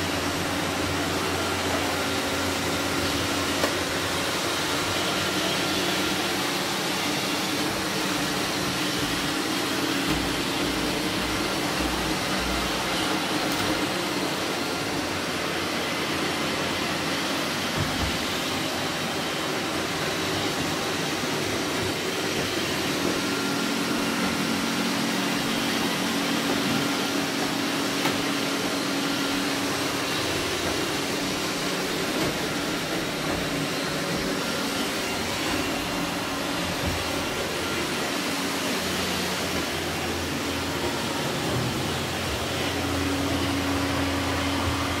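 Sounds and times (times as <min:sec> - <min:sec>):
robot vacuum cleaners whirring: 0:00.0 - 0:45.0.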